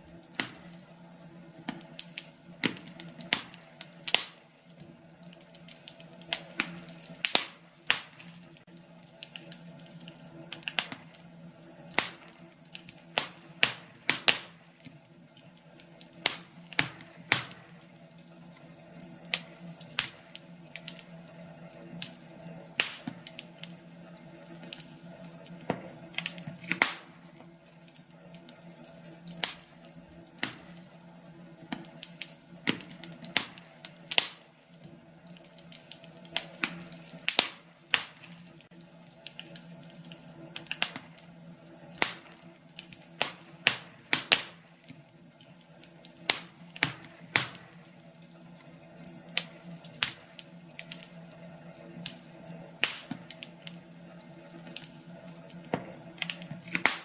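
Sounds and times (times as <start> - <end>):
steady low hum: 0.0 - 57.0
wood fire crackling: 0.0 - 57.0.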